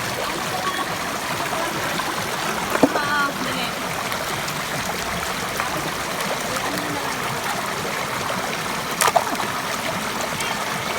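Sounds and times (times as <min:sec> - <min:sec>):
stream rushing and trickling: 0:00.0 - 0:10.9.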